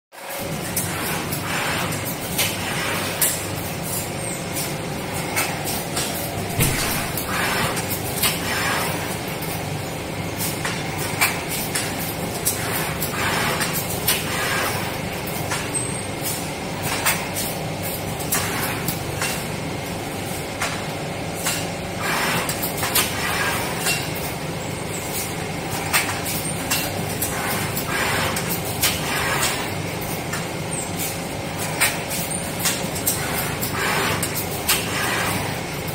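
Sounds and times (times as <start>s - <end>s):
machine hum: 0.3s - 35.9s.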